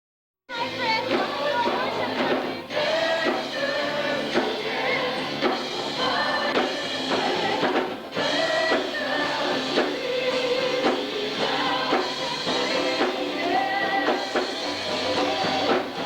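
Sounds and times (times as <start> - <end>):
band with drums: 0.5 - 16.0
group singing worship music: 0.5 - 16.0.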